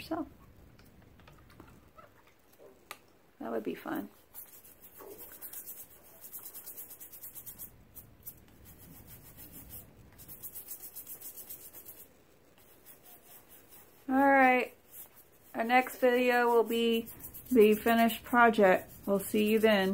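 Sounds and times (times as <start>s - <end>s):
soft rhythmic scrubbing: 0.0s - 19.9s.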